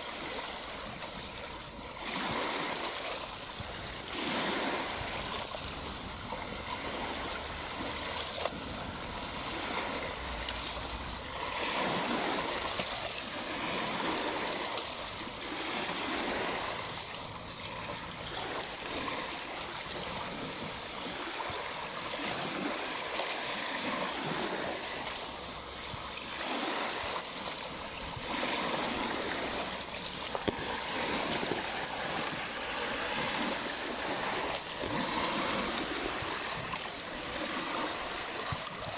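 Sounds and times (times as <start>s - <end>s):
small waves washing on shore: 0.0s - 38.9s.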